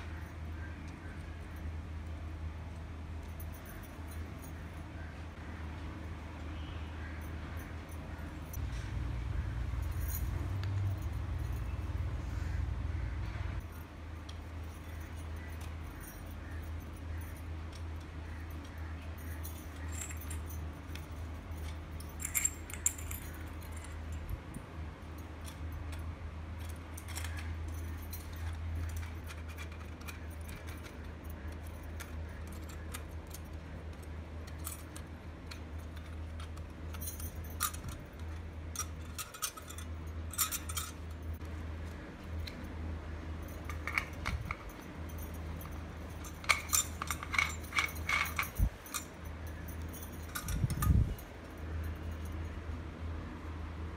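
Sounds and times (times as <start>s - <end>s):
steady low hum: 0.0s - 53.9s
bangles jingling: 3.1s - 5.1s, 6.6s - 12.6s, 13.6s - 41.5s, 42.2s - 52.8s.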